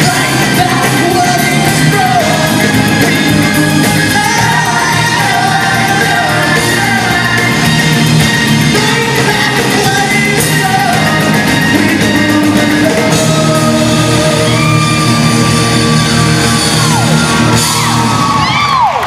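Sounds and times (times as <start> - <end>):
man singing: 0.0 - 16.2
rock band playing: 0.0 - 19.0.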